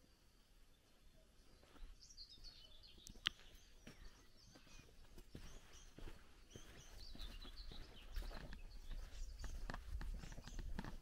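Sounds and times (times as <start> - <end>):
faint birdsong chirps: 0.0 - 11.0
footsteps on forest path: 1.6 - 11.0.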